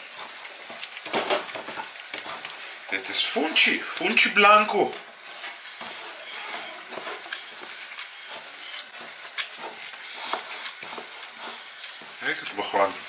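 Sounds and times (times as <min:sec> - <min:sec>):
cornmeal rustling: 0:00.0 - 0:13.0
dough squishing in a bowl: 0:00.0 - 0:13.0.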